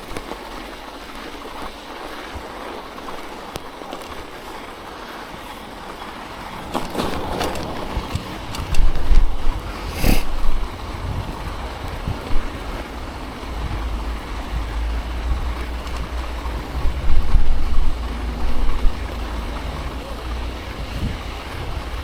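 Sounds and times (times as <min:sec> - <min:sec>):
wind buffeting microphone: 0:03.8 - 0:22.0.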